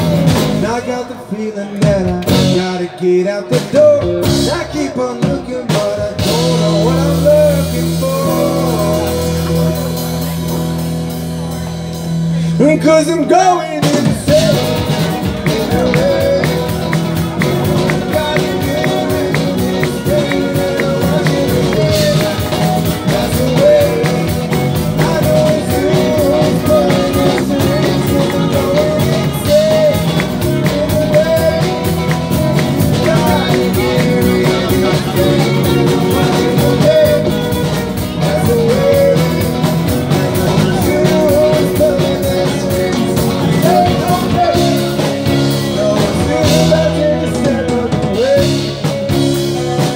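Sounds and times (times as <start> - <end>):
live band music: 0.0 - 49.9.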